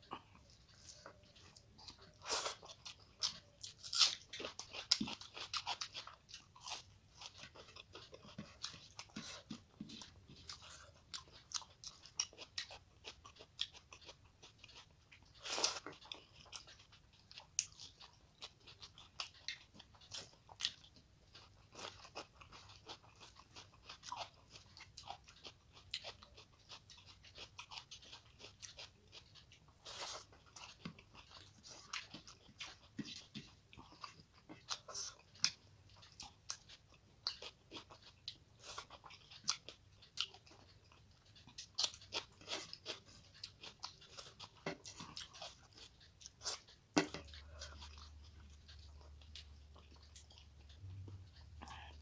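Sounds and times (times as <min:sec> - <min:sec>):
person chewing and crunching: 0:00.0 - 0:52.0.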